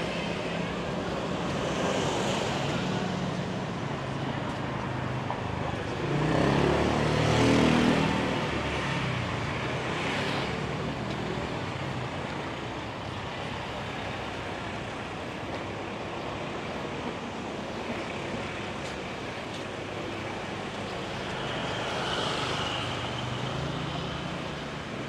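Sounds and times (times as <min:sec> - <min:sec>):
steady traffic noise: 0:00.0 - 0:25.0.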